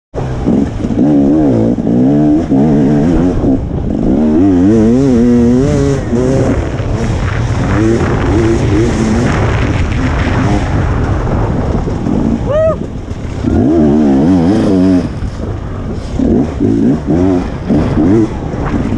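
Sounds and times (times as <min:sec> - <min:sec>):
dirt bike engine revving: 0:00.2 - 0:18.9.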